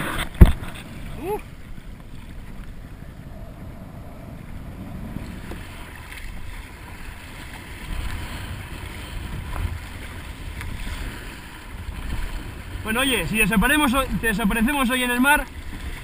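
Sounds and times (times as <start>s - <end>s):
water sloshing against kayak hull: 0.0s - 16.0s.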